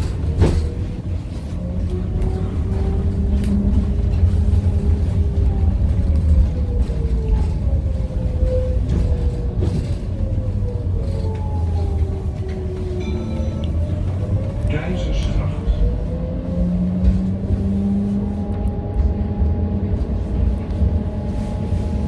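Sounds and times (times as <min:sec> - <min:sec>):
tram motors whining: 0:00.0 - 0:22.0
wheels rumbling on rails: 0:00.0 - 0:22.0.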